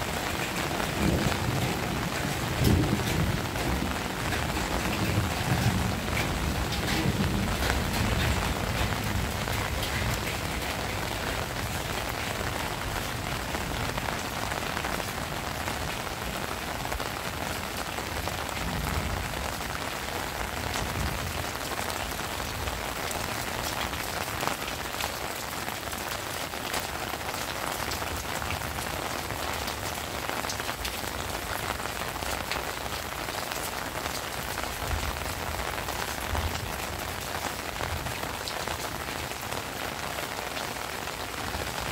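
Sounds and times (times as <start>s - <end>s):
heavy rain falling: 0.0s - 41.9s
raindrop hits close by: 0.0s - 41.9s.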